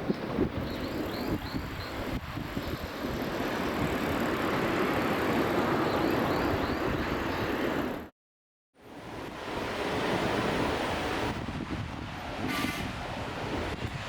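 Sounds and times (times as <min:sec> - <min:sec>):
rushing outdoor ambience: 0:00.0 - 0:08.1, 0:08.8 - 0:14.0.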